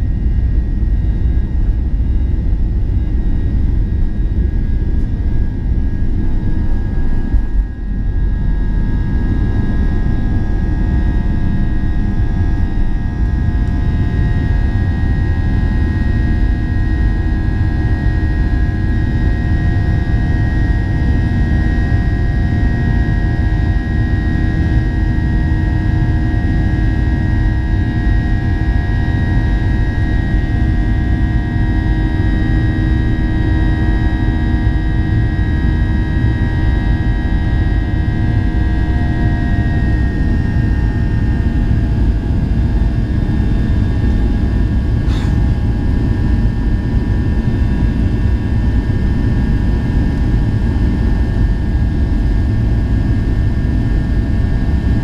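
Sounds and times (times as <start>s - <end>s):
jet engines in cabin: 0.0s - 55.0s.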